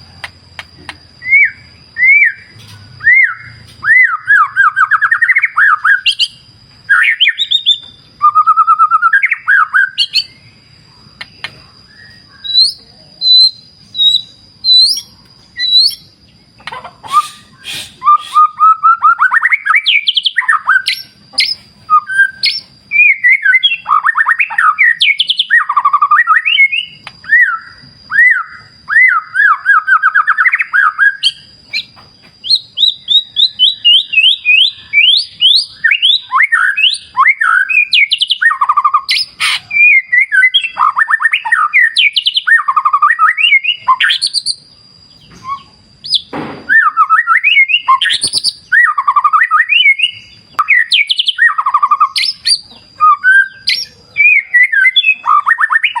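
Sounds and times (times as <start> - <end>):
bird singing whistled trills: 0.0 - 56.0.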